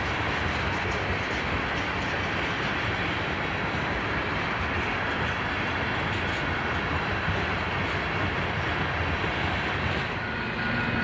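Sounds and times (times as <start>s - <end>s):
steel train wheels on rails: 0.0s - 11.0s.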